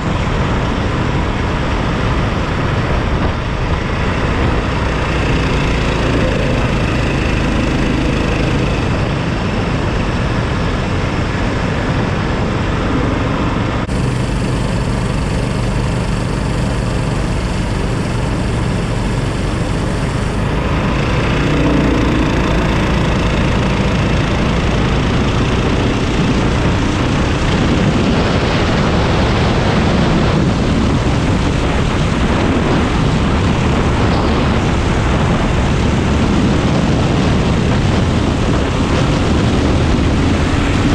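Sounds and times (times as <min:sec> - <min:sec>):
kart engine running hard: 0:00.0 - 0:40.9.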